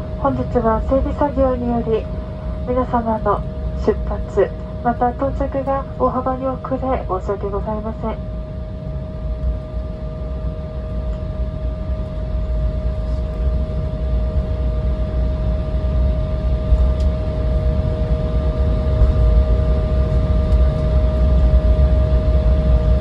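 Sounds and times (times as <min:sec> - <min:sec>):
jet engines rumbling and whining: 0:00.0 - 0:23.0.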